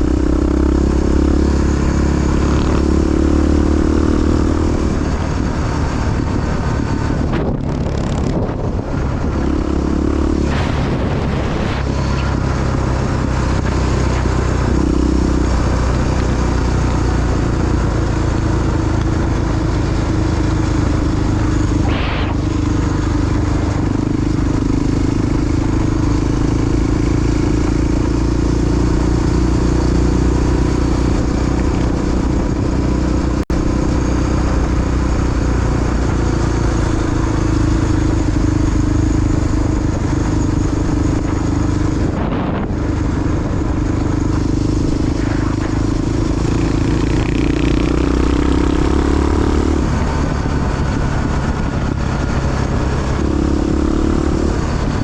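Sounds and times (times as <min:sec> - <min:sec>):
constant rushing noise: 0:00.0 - 0:03.3, 0:04.2 - 0:55.0
motorcycle engine running: 0:00.0 - 0:55.0.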